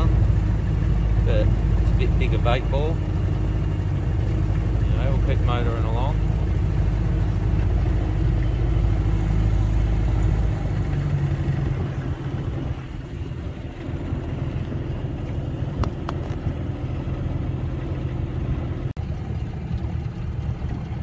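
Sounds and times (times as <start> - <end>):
boat motor running: 0.0 - 21.0.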